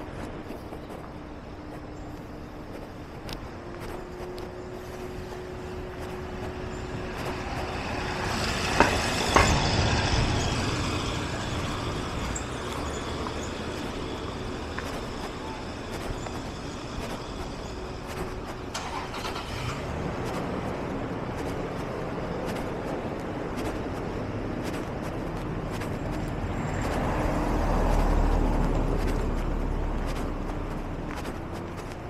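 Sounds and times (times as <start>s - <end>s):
car passing: 2.4s - 32.0s.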